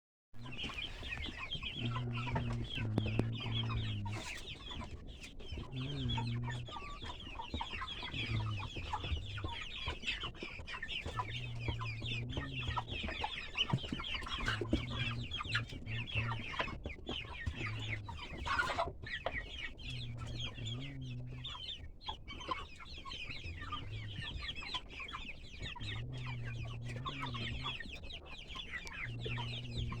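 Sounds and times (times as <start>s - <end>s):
low drawn-out calls: 0.4s - 4.9s, 5.5s - 10.4s, 11.0s - 18.9s, 19.8s - 21.9s, 23.1s - 24.7s, 25.6s - 27.9s, 28.6s - 30.0s
chickens clucking: 0.4s - 30.0s.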